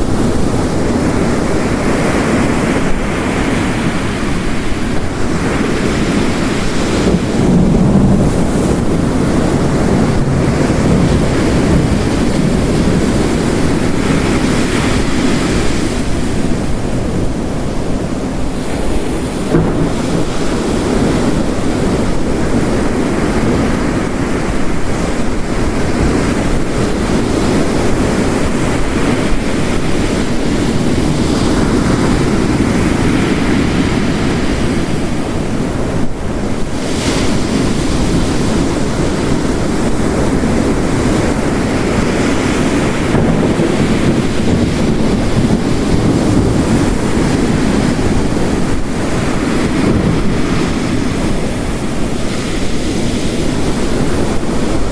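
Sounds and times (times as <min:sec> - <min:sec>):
heavy rain: 0:00.0 - 0:54.9
ocean waves crashing on rocks: 0:00.0 - 0:54.9.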